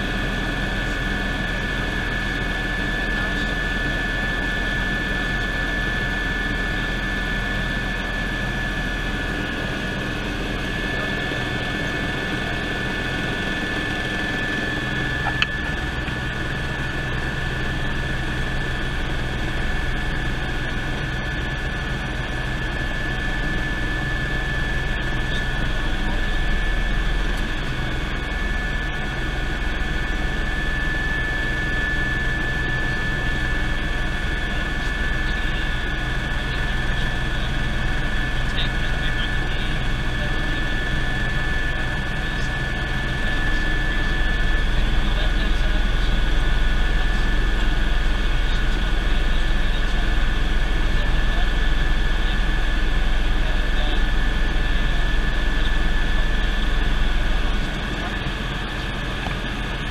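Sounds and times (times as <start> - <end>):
helicopter in flight: 0.0 - 59.9.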